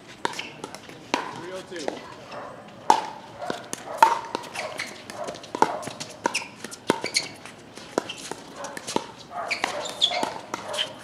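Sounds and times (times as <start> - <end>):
paddles hitting plastic ball: 0.2 - 2.0, 2.9 - 11.0.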